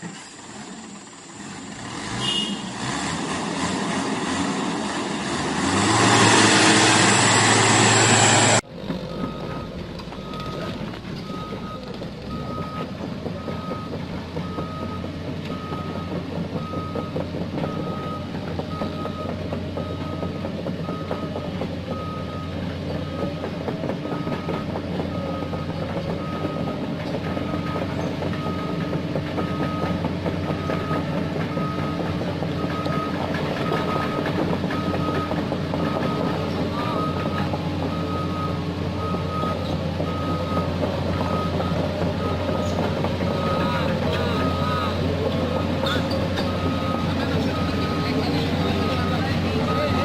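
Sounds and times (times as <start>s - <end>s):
diesel engine running: 0.0s - 50.0s
excavator motion alarm beeping: 8.5s - 50.0s.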